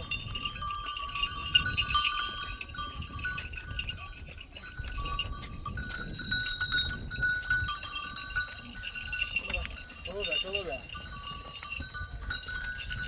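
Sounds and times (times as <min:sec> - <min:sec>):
animal bells ringing: 0:00.0 - 0:13.0.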